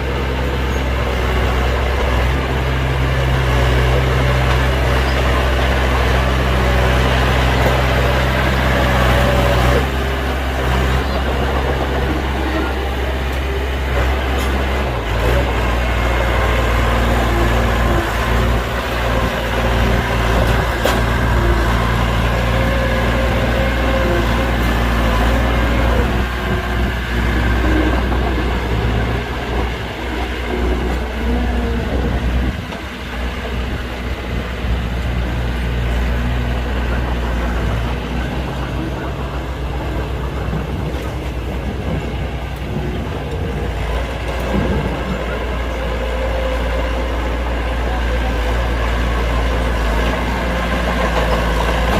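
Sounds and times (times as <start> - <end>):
diesel machinery droning: 0.0 - 51.9.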